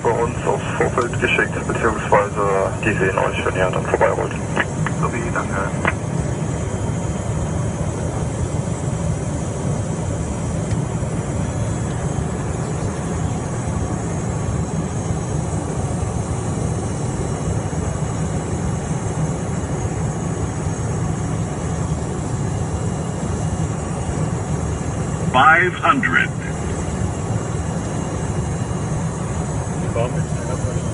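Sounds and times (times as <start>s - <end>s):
jet engine hum: 0.0s - 30.9s.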